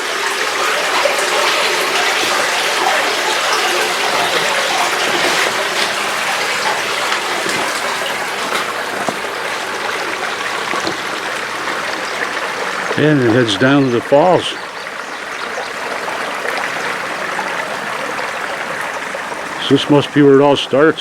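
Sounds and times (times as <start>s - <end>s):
spring water gushing and splashing: 0.0s - 21.0s.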